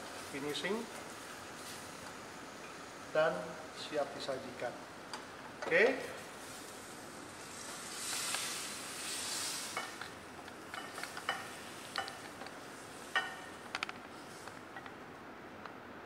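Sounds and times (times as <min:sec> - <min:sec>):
food sizzling hiss: 0:00.0 - 0:14.8.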